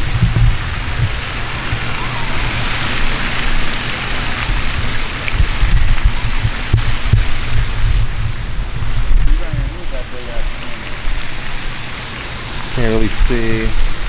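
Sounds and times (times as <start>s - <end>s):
fountain water splashing: 0.0s - 14.0s
wind buffeting microphone: 0.0s - 14.0s.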